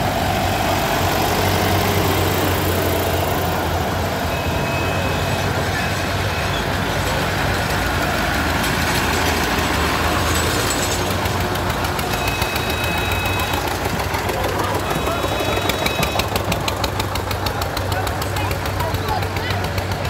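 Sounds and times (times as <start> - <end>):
small tractor engine clattering: 0.0 - 20.0
tractor diesel engines passing: 0.0 - 20.0.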